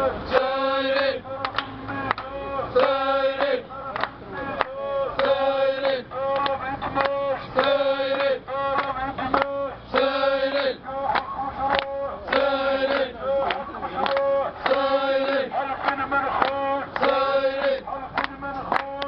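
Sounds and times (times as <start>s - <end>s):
protesters chanting: 0.0s - 19.0s.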